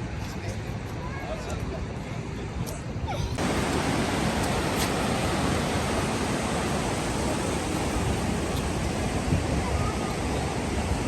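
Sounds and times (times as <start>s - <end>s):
sea and wind rushing: 0.0s - 11.0s.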